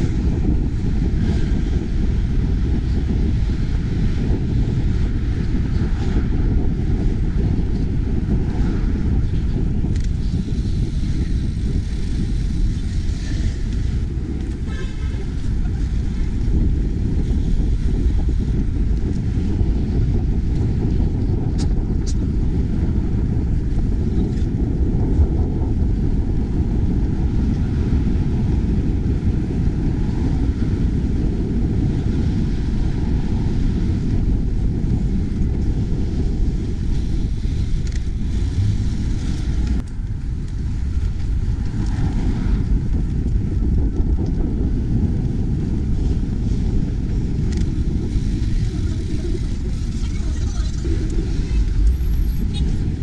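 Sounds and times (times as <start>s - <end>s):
road traffic: 0.0s - 53.0s
wind rumble on microphone: 0.0s - 53.0s.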